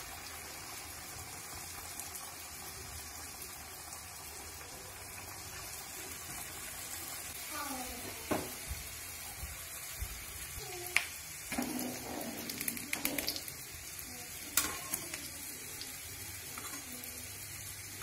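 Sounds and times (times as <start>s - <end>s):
dough frying in hot oil: 0.0s - 18.0s.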